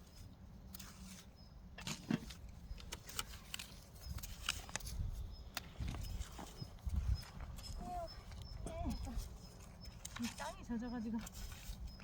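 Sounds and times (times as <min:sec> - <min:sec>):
hoe scraping and knocking soil: 0:00.0 - 0:12.0.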